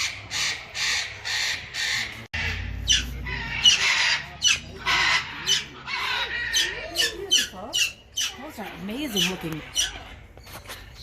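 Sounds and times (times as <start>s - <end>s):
parrots squawking: 0.0s - 10.4s.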